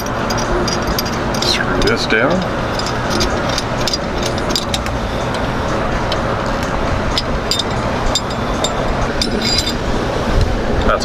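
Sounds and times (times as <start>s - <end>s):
small metal clicks and clinks: 0.0s - 10.0s
steady rushing background noise: 0.0s - 11.0s.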